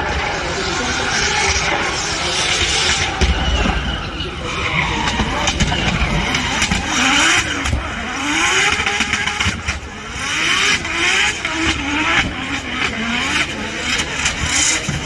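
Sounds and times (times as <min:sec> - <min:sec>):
car engine revving: 0:00.0 - 0:15.0
tyre noise from sliding car: 0:00.0 - 0:15.0.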